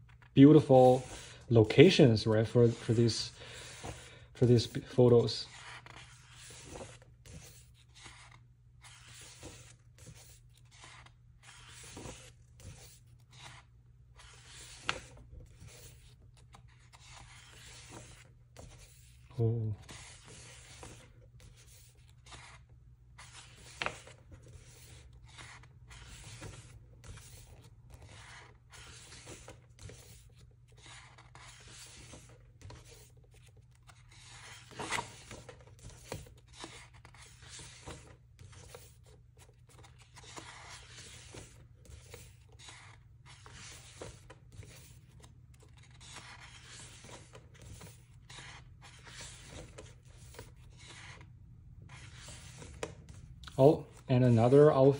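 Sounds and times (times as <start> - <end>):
paper rustling and rubbing: 0.0 - 54.9.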